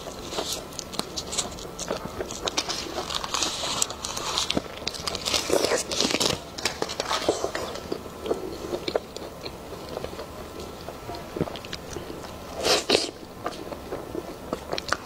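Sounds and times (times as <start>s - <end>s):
person chewing wet mouth sounds: 0.0s - 15.0s.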